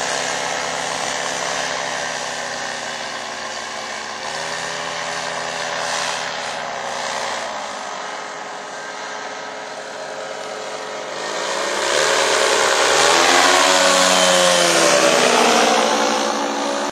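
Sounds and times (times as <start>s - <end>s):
paramotor engine droning: 0.0s - 16.9s.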